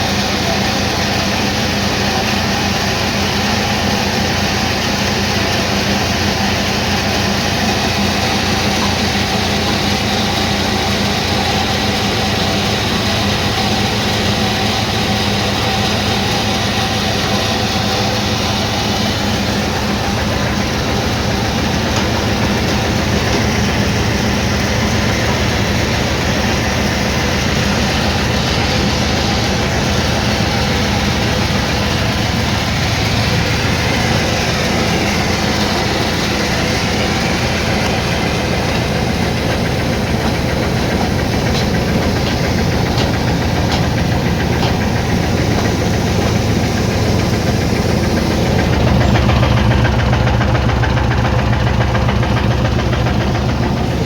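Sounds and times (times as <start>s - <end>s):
sawmill motor hum: 0.0s - 54.0s.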